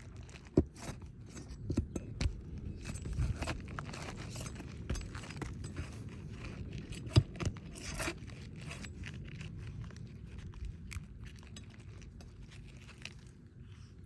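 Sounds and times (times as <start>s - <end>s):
handling clicks and scrapes: 0.0s - 14.0s
low steady rumble: 0.0s - 14.0s.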